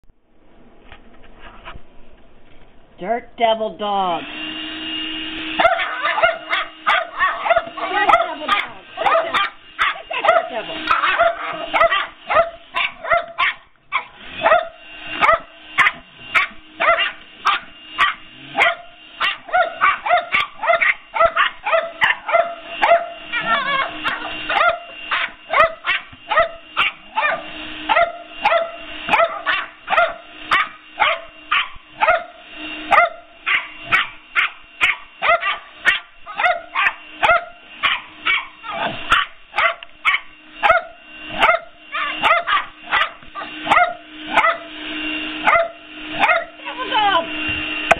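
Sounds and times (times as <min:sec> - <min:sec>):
vacuum cleaner humming: 0:03.5 - 0:47.9
dogs barking: 0:05.6 - 0:44.8, 0:45.4 - 0:46.6.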